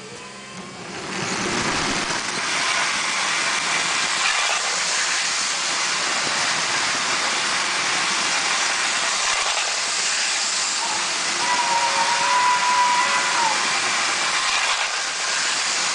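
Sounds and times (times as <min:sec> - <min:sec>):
toy train running on metal track: 0:01.1 - 0:15.9.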